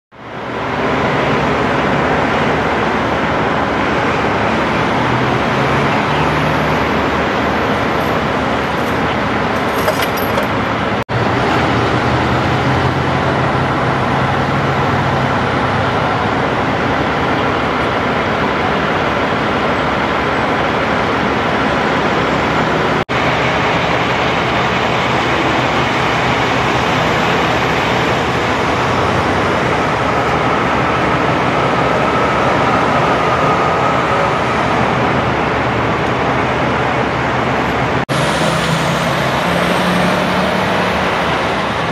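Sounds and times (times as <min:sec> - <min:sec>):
freeway traffic rushing: 0:00.1 - 0:41.9.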